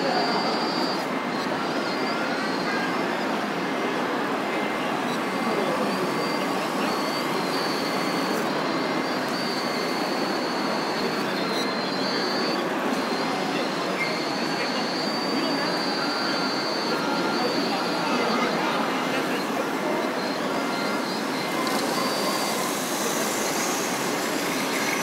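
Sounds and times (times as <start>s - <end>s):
hydraulic pump whine: 0.0s - 25.0s
rushing hall background noise: 0.0s - 25.0s.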